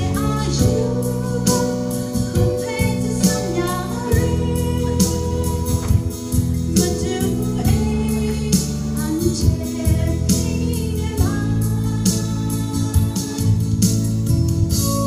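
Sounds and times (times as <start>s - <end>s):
amplified chords with steady beat: 0.0s - 15.0s
woman singing into a microphone: 0.0s - 15.0s.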